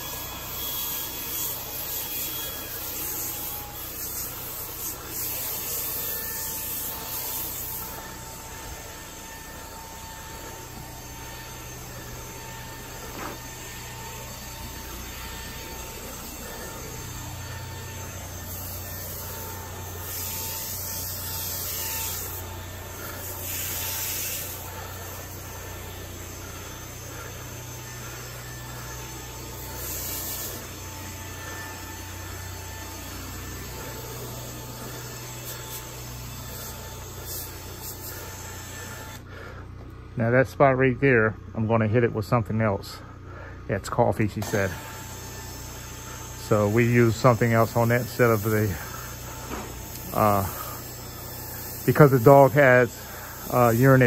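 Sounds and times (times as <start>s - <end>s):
spray wand hissing: 0.0s - 39.3s, 44.5s - 54.0s
low equipment hum: 0.0s - 54.0s
low machine drone: 0.0s - 54.0s.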